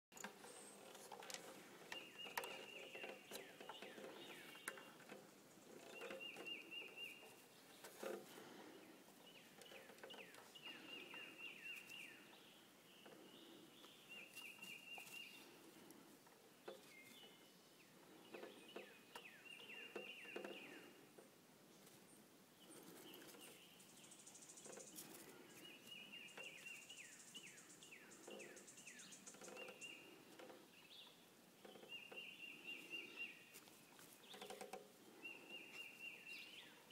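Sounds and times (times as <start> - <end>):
songbird singing: 0.1 - 36.9.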